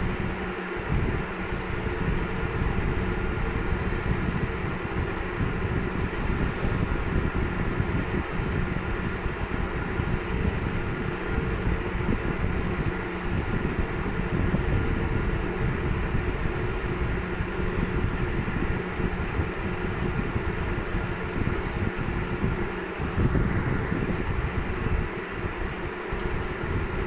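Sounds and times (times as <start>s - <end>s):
electric motor humming: 0.0s - 27.0s.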